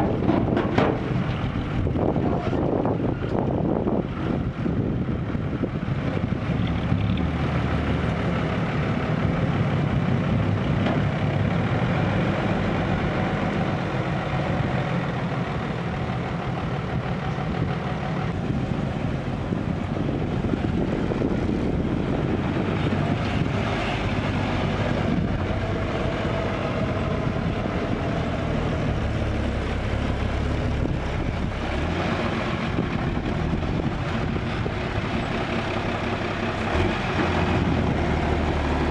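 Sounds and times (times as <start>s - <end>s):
dump truck diesel engines running: 0.0s - 38.9s.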